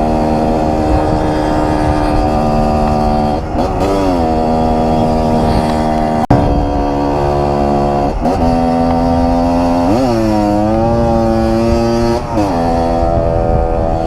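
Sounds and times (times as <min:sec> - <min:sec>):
two-stroke dirt bike engine: 0:00.0 - 0:14.0.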